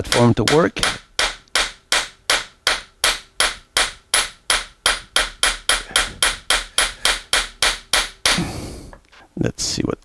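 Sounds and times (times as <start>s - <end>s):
hammer striking metal die: 0.0s - 8.5s.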